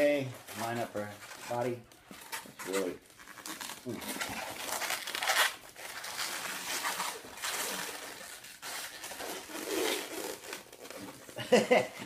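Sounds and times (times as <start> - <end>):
balloons rubbing together: 0.0 - 11.4.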